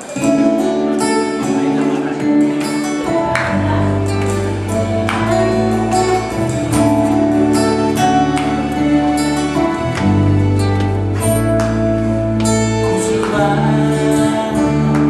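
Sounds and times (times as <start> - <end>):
keyboard chords: 0.0 - 15.0
bass line: 2.4 - 15.0.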